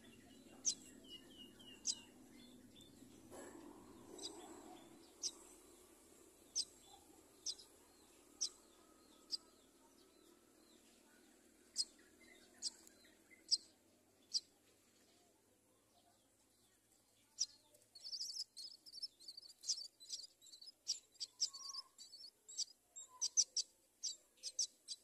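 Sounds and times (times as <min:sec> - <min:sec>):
nestlings chirping: 0:00.0 - 0:14.5, 0:17.3 - 0:25.0
faint background hum: 0:00.0 - 0:25.0.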